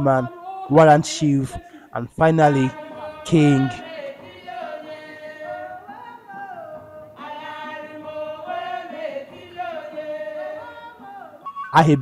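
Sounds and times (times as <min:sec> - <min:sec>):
women singing without instruments: 0:00.0 - 0:12.0.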